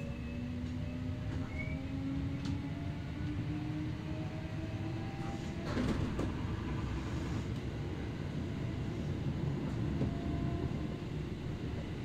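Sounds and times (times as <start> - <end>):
train wheel rumble: 0.0 - 12.0.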